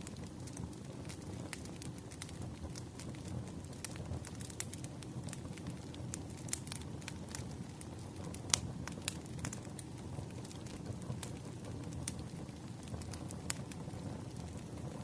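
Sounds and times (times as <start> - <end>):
campfire rumble: 0.0 - 15.0
wood crackling and popping: 0.0 - 15.0.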